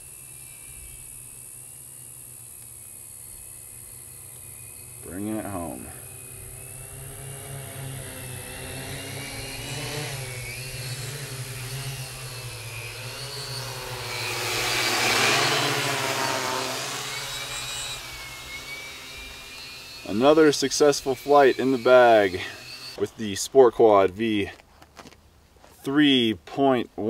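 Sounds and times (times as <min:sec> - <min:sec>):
drone propellers whining: 0:00.0 - 0:24.7.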